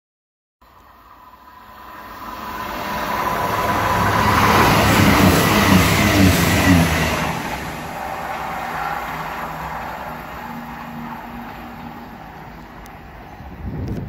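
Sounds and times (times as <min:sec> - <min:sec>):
diesel train passing: 0:00.6 - 0:14.0
wheel-on-rail noise: 0:01.0 - 0:14.0.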